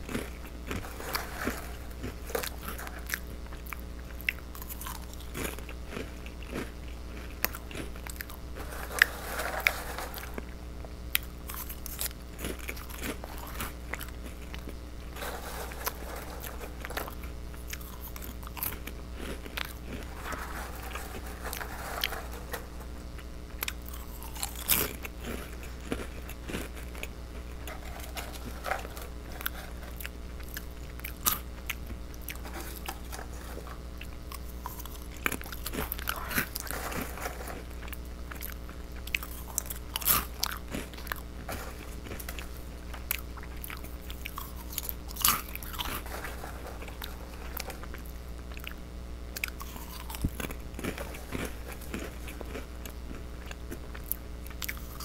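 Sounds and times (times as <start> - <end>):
crunchy crackers being chewed: 0.0 - 55.0
steady low hum: 0.0 - 55.0.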